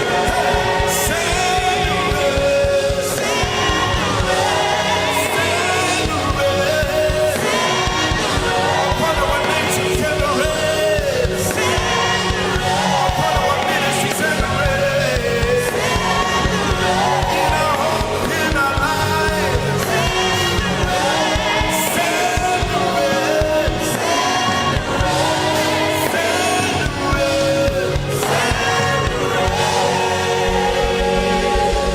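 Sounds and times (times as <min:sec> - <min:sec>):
full band accompaniment: 0:00.0 - 0:31.9
voices singing gospel song: 0:00.0 - 0:31.9.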